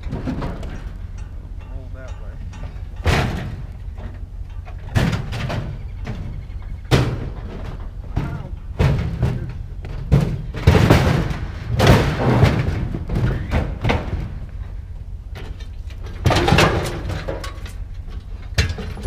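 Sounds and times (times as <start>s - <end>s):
heavy thumps and bangs of scrap: 0.0s - 19.0s
steady low rumble: 0.0s - 19.0s.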